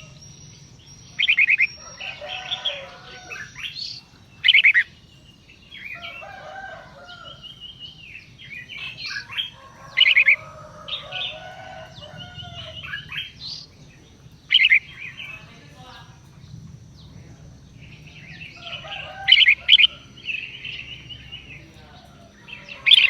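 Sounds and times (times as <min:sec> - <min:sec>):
birds chirping and calling: 0:00.0 - 0:23.0.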